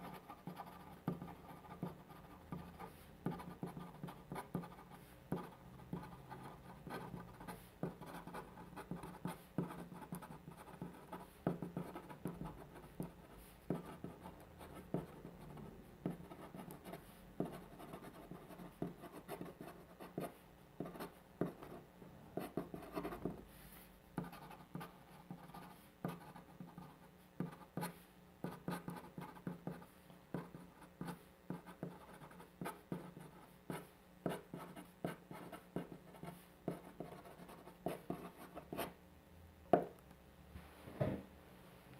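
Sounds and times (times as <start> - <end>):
pen writing on paper: 0.0 - 21.8, 22.4 - 23.4, 24.2 - 38.9.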